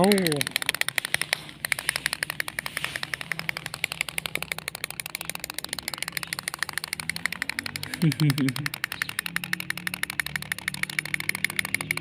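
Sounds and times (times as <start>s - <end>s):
wind-up toy clicking: 0.0s - 12.0s.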